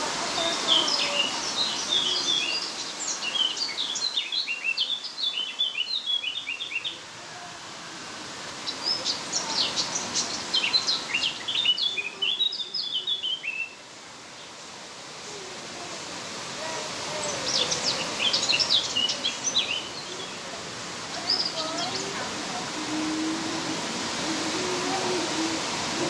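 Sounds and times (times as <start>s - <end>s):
songbird chirping: 0.2s - 7.2s, 8.5s - 26.0s.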